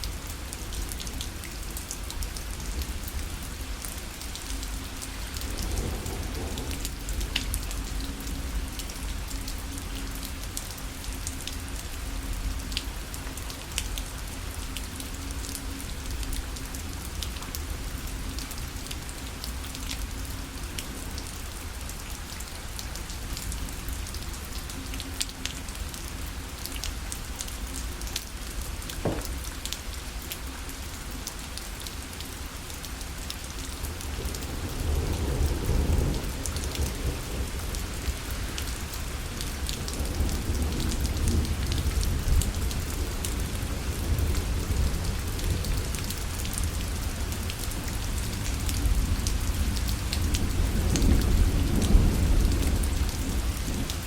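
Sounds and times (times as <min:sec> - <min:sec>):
rain pattering on a parasol: 0:00.0 - 0:54.0.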